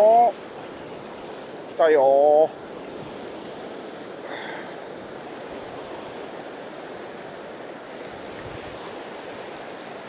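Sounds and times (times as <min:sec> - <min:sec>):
waves washing on beach: 0:00.0 - 0:10.0.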